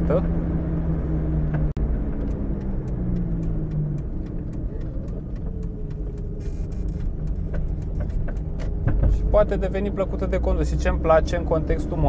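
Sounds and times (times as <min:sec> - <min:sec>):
car engine inside cabin: 0:00.0 - 0:12.0.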